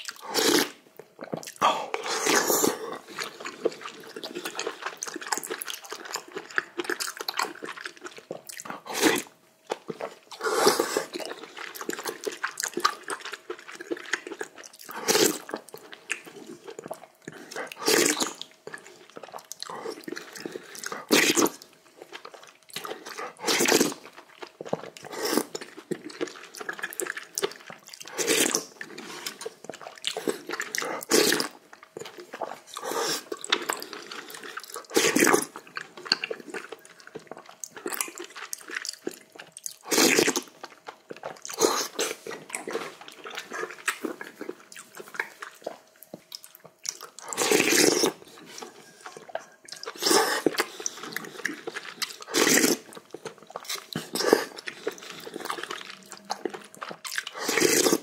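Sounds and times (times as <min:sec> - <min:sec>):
chewing: 0:00.0 - 0:58.0
slurping soup: 0:00.1 - 0:00.8, 0:01.4 - 0:06.4, 0:10.0 - 0:13.4, 0:14.2 - 0:16.6, 0:17.3 - 0:21.7, 0:22.8 - 0:24.1, 0:24.9 - 0:27.3, 0:28.0 - 0:38.8, 0:39.8 - 0:40.6, 0:41.2 - 0:45.8, 0:47.0 - 0:58.0.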